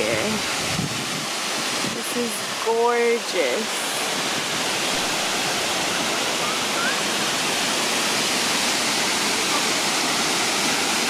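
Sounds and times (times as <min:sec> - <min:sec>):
waterfall pouring: 0:00.0 - 0:11.0.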